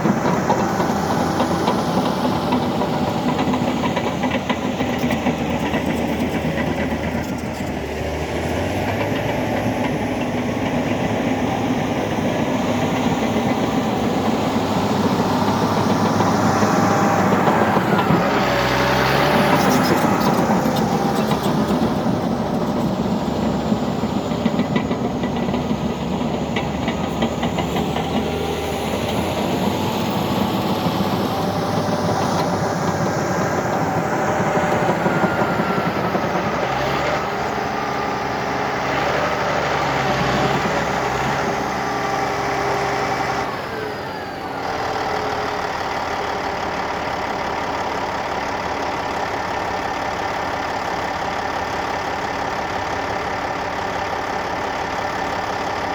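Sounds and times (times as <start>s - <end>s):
diesel earthmoving machinery revving: 0.0s - 55.9s.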